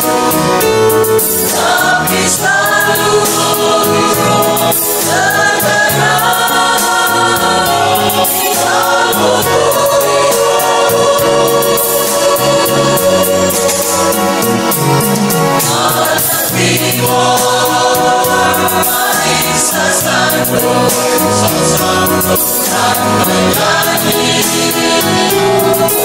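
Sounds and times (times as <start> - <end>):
instrumental backing with percussion: 0.0 - 26.0
mixed choir singing: 0.0 - 26.0.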